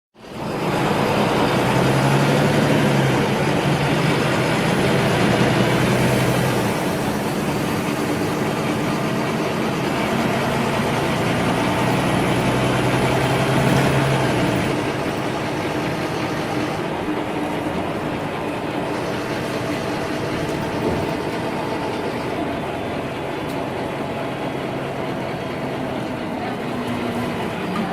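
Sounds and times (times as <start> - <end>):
bus engine humming: 0.2 - 27.9
road and interior noise: 0.2 - 27.9.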